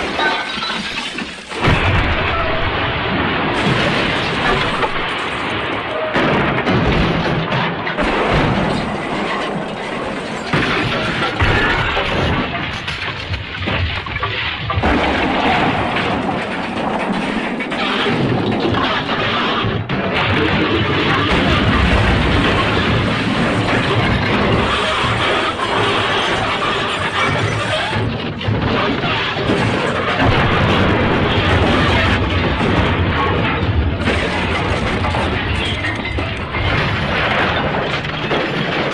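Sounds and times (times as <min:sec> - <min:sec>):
cartoon smash crashing and rumbling: 0:00.0 - 0:38.9.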